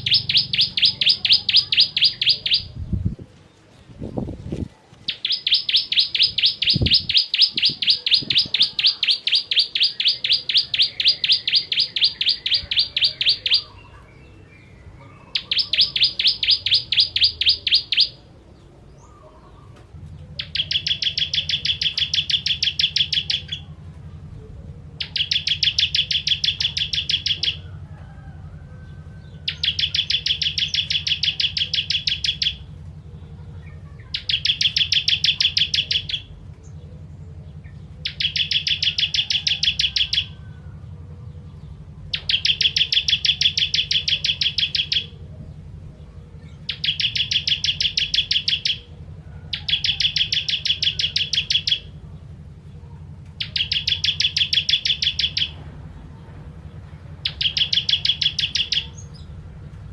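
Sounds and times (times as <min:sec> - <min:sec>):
bird singing fast trill: 0:00.0 - 0:03.2, 0:05.1 - 0:18.3, 0:20.4 - 0:23.8, 0:25.0 - 0:27.6, 0:29.3 - 0:32.8, 0:33.6 - 0:36.8, 0:37.6 - 0:52.0, 0:53.4 - 0:55.6, 0:57.0 - 0:59.9
steady low hum: 0:00.0 - 0:59.9.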